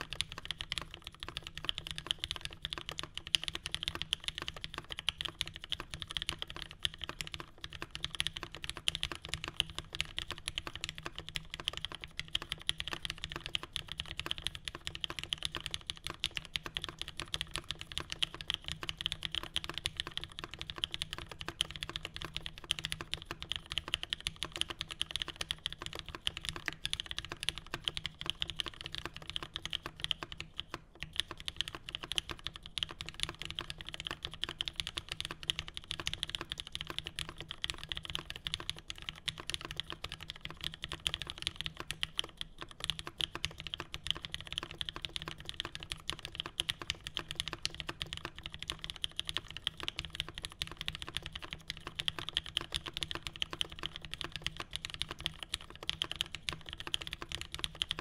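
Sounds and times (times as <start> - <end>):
mechanical keyboard typing: 0.0 - 58.0.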